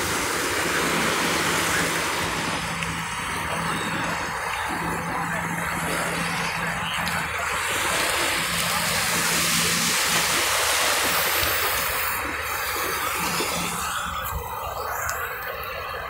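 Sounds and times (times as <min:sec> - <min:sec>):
waves washing over rocky shore: 0:00.0 - 0:16.0.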